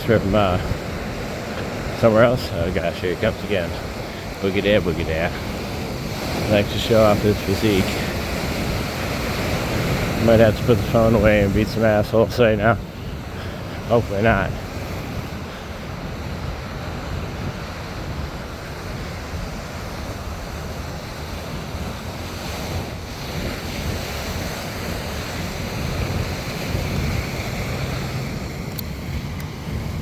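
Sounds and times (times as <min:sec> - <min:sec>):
ocean surf washing onto beach: 0:00.0 - 0:30.0
wind buffeting microphone: 0:00.0 - 0:30.0.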